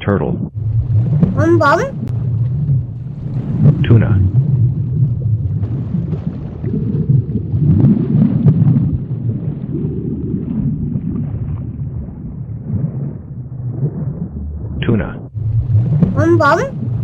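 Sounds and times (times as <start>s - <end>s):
low underwater rumble: 0.0s - 17.0s.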